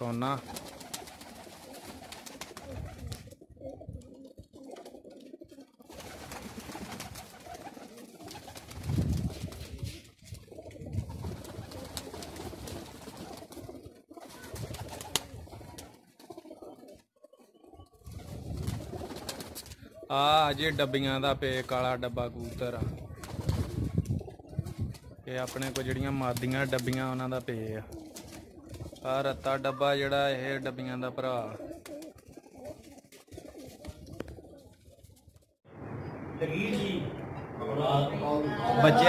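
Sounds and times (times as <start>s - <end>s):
pigeons cooing: 0.0s - 21.2s, 22.4s - 27.2s, 27.8s - 29.8s, 31.1s - 35.2s.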